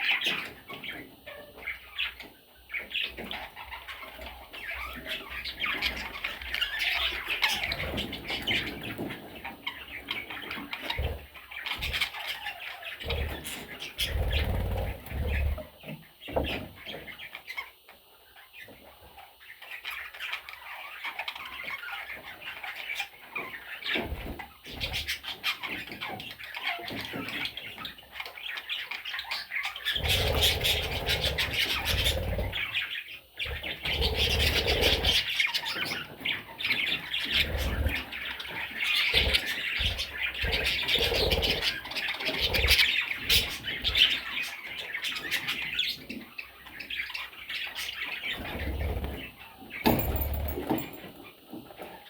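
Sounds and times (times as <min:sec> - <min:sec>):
budgerigars chattering and squawking: 0:00.0 - 0:52.0.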